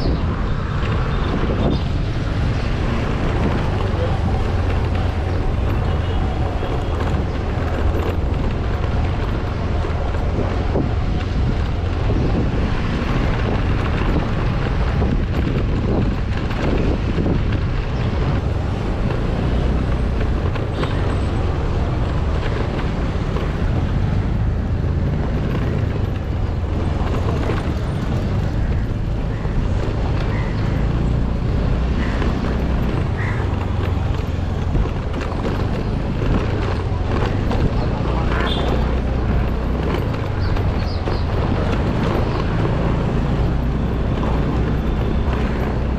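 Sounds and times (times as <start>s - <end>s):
vehicle engine and road noise: 0.0s - 45.9s
wind buffeting microphone: 0.0s - 45.9s.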